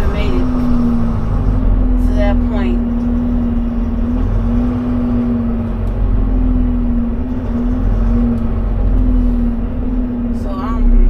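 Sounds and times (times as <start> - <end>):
truck engine and road drone: 0.0 - 11.0
wavering hum: 0.0 - 11.0.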